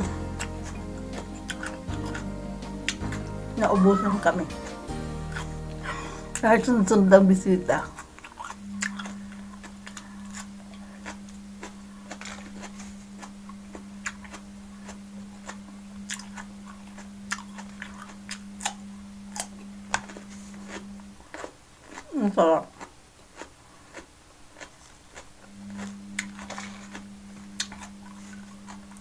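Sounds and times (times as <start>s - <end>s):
chewing raw vegetables: 0.0s - 6.5s, 7.8s - 29.0s
steady low hum: 0.0s - 22.2s, 25.0s - 29.0s.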